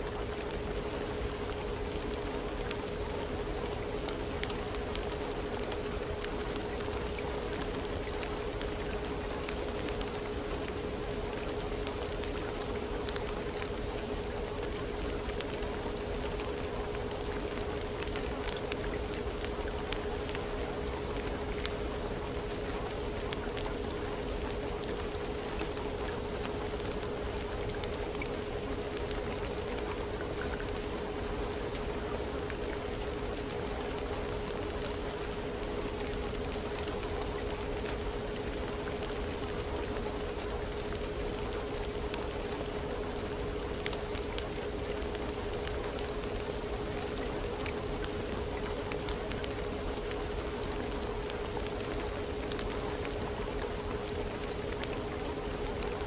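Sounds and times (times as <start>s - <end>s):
steady rain: 0.0s - 56.0s
steady water-like hiss: 0.0s - 56.0s
faint ticks: 3.7s - 56.0s.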